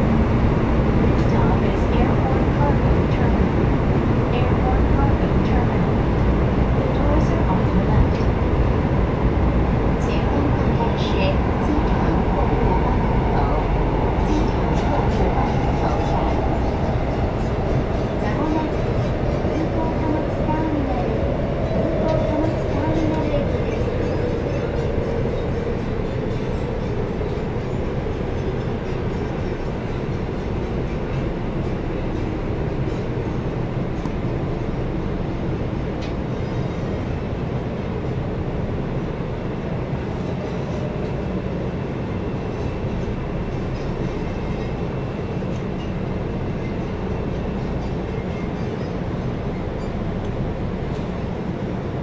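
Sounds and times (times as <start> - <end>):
train rumbling in tunnel: 0.0 - 52.0.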